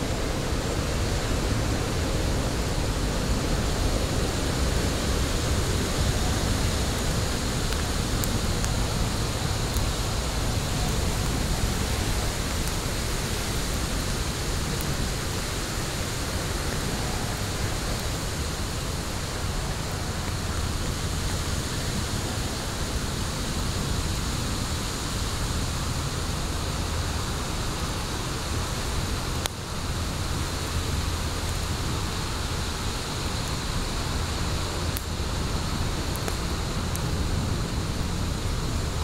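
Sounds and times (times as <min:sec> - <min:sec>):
wood fire burning: 0:00.0 - 0:39.0.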